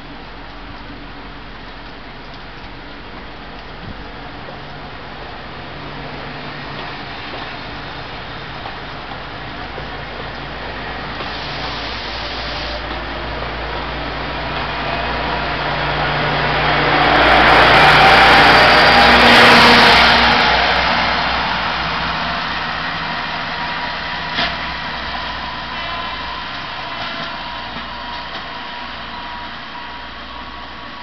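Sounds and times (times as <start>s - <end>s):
diesel locomotive engine: 0.0s - 31.0s
train cars rolling past: 0.0s - 31.0s.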